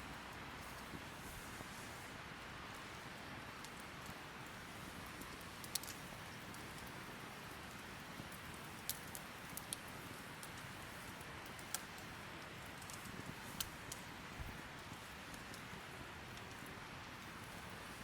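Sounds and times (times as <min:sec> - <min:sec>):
wood fire hissing: 0:00.0 - 0:18.0
fire crackling pops: 0:00.1 - 0:18.0.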